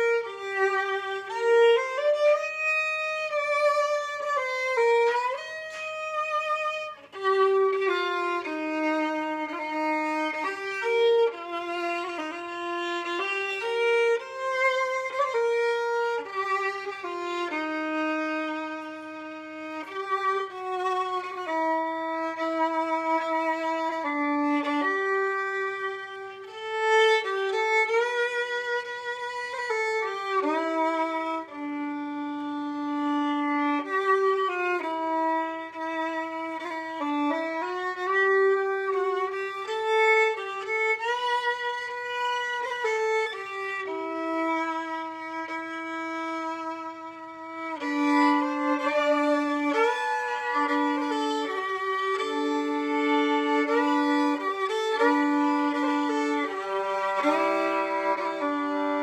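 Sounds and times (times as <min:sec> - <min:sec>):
violin playing slow hymn: 0:00.0 - 0:59.0.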